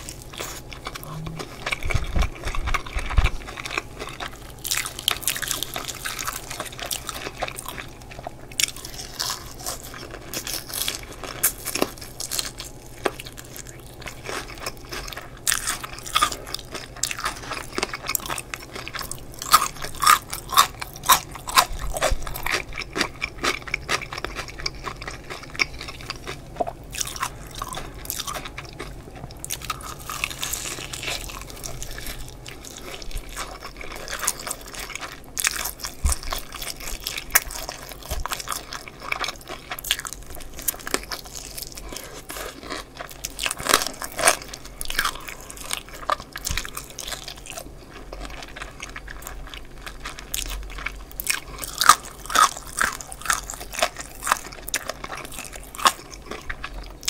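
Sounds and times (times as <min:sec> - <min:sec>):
fried chicken crust crunching: 0:00.0 - 0:57.0
soft chewing: 0:00.0 - 0:57.0.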